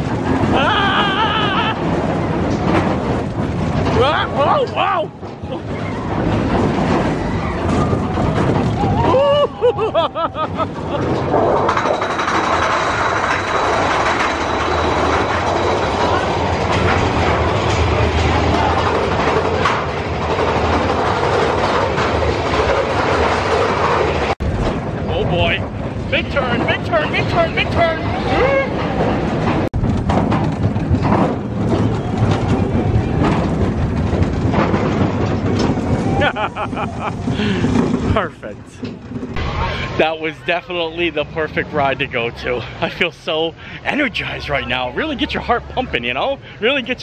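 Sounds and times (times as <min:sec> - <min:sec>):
roller coaster rumbling and clattering: 0:00.0 - 0:47.0.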